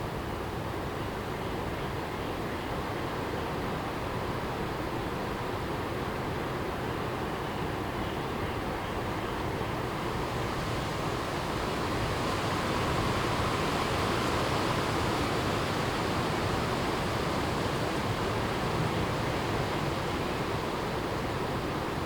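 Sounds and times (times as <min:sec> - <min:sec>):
strong wind through trees: 0:00.0 - 0:22.0.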